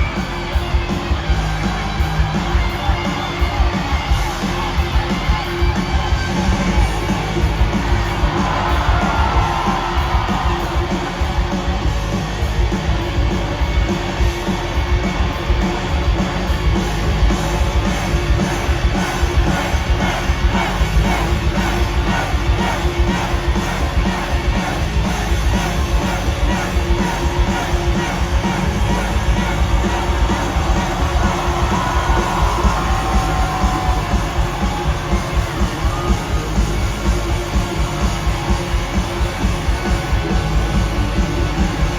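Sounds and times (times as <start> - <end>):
crowd yelling and singing along: 0.0 - 41.9
live rock music: 0.0 - 41.9.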